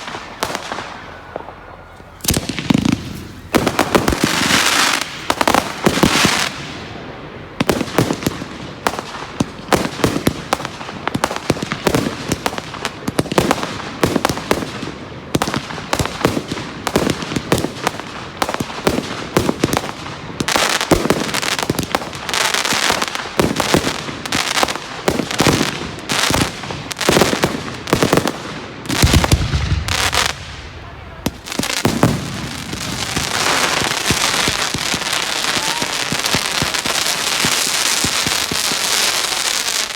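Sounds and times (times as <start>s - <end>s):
fireworks bangs and crackles: 0.0s - 39.9s
heavy firework booms: 0.0s - 39.9s.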